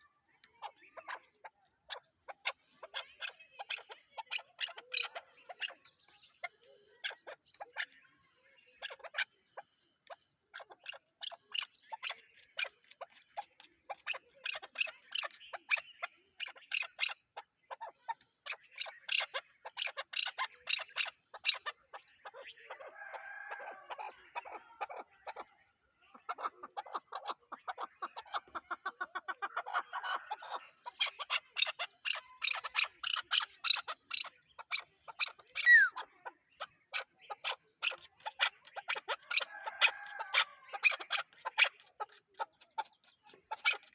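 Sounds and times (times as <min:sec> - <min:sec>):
partridge calling sharp chucks: 0:00.0 - 0:43.9.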